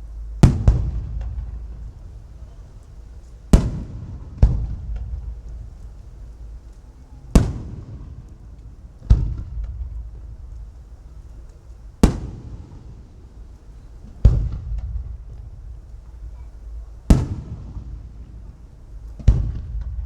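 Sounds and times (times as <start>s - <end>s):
firework shells bursting: 0.0s - 20.0s.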